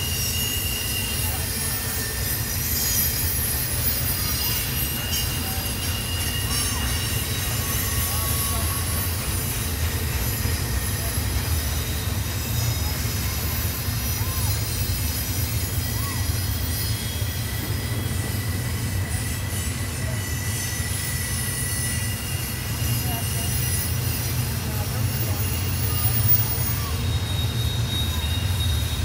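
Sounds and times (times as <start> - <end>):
freight cars rumbling: 0.0 - 29.0
high wheel squeal: 0.0 - 29.0.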